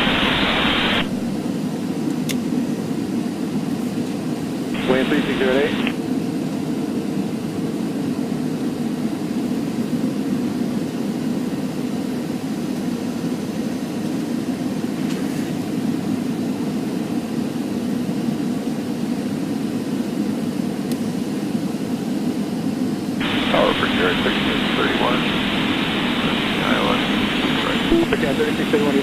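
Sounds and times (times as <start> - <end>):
airplane cabin engine and airflow rush: 0.0 - 29.0.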